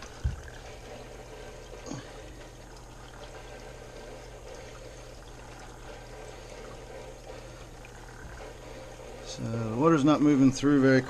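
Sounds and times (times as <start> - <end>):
water trickling into bucket: 0.0 - 11.0.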